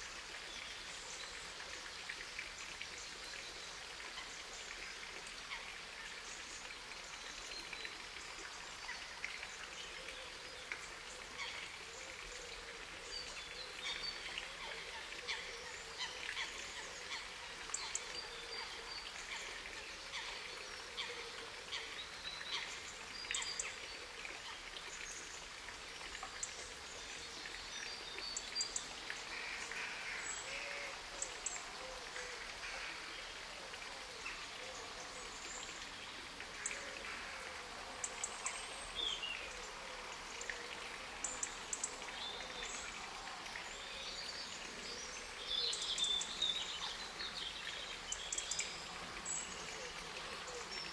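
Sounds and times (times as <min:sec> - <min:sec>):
faint hiss: 0:00.0 - 0:50.9.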